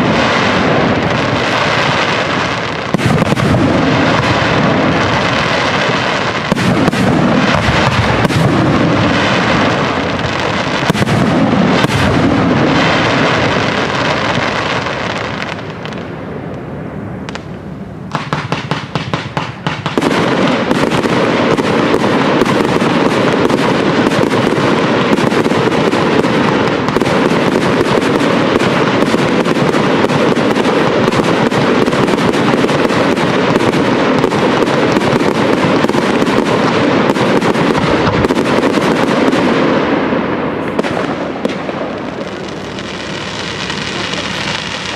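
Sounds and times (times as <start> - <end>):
fireworks bangs and crackles: 0.0 - 44.9
sharp firework cracks: 0.0 - 44.9.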